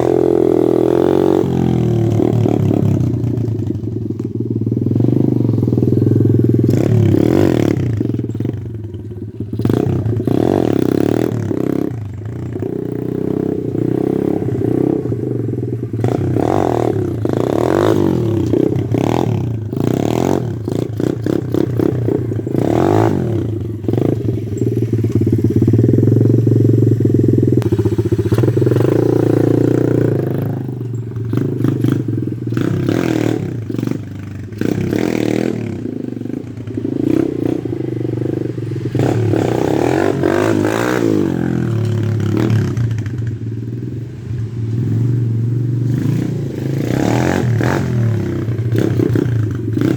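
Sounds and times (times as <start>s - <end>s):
pit bike engine revving: 0.0s - 43.8s, 44.7s - 49.9s.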